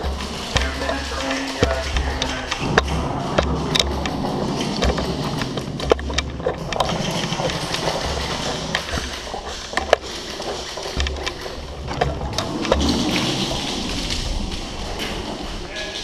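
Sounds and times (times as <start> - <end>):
background noise and low hum: 0.0 - 16.0.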